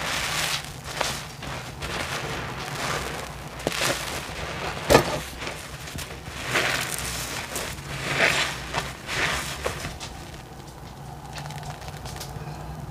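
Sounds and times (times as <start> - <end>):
soapy sponge squelching: 0.0 - 10.5.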